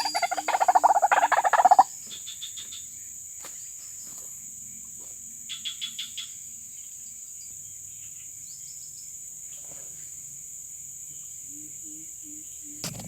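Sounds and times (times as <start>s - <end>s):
crickets and insects chirping: 0.0s - 13.0s.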